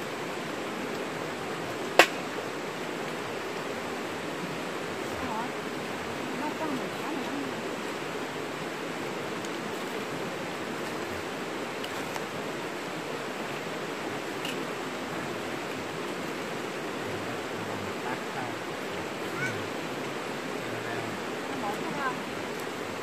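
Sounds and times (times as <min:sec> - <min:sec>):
stream water over rocks: 0:00.0 - 0:23.0.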